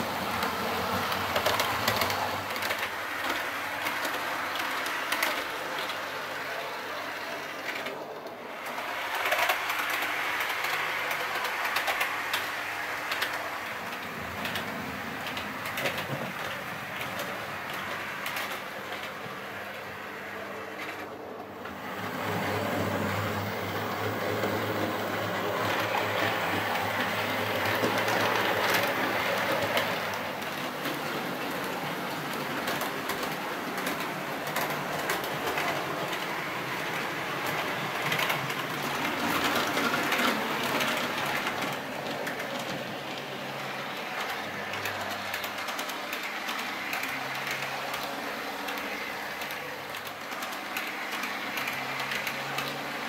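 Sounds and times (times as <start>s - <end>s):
model train running on track: 0.0s - 53.0s.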